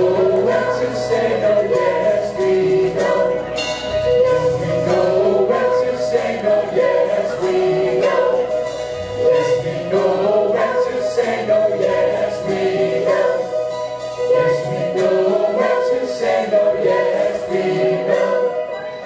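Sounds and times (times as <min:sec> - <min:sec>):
choir singing: 0:00.0 - 0:19.0
musical accompaniment: 0:00.0 - 0:19.0.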